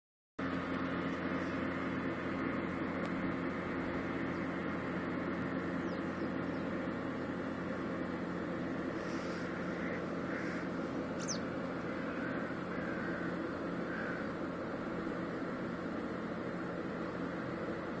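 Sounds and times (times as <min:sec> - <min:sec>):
boat diesel engine drone: 0:00.4 - 0:18.0.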